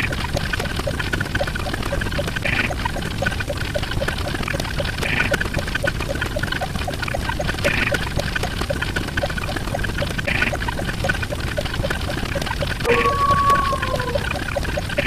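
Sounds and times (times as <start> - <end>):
bubbling pouring water: 0.0 - 15.0.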